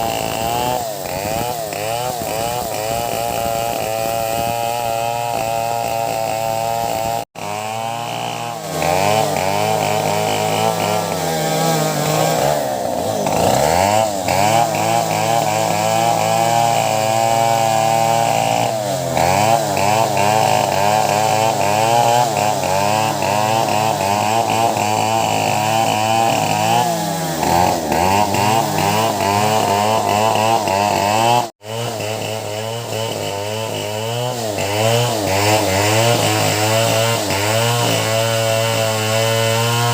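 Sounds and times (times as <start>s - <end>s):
chainsaws cutting wood: 0.0s - 39.9s.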